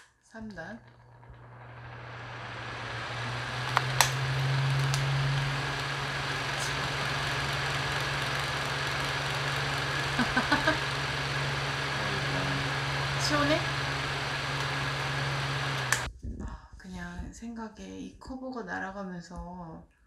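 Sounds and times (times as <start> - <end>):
electric fan humming: 0.0 - 16.1.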